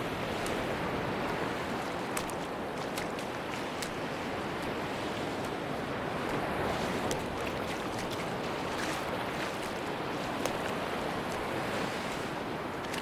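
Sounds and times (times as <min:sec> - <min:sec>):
sea surf washing on a beach: 0:00.0 - 0:13.0.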